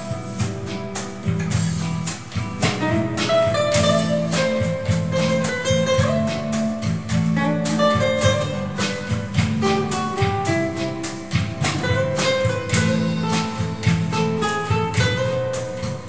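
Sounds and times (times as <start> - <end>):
acoustic guitar instrumental: 0.0 - 16.0.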